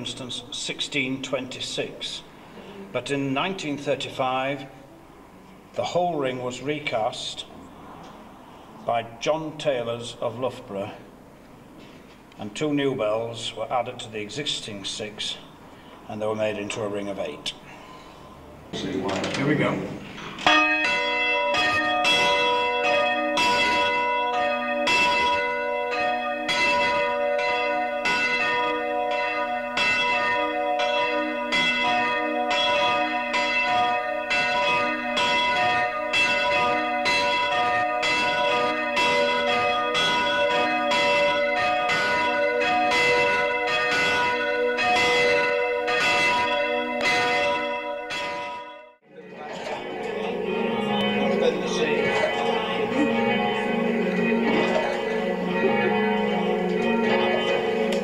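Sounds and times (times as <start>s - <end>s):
church bells ringing: 0.0s - 7.8s, 19.0s - 58.0s.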